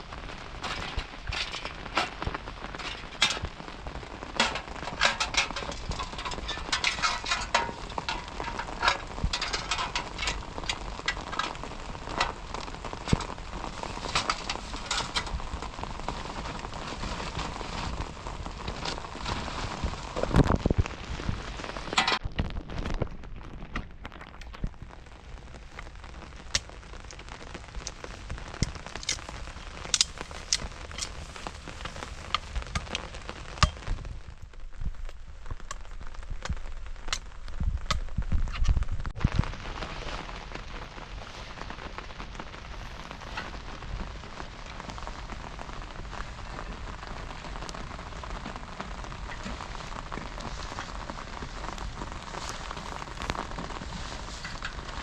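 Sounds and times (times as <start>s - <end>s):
rain falling with crackles and taps: 0.0s - 55.0s.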